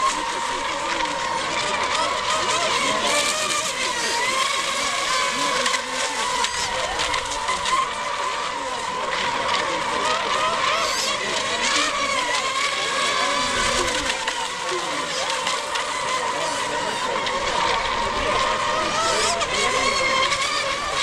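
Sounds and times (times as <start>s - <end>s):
rc boats motor whine: 0.0s - 21.0s.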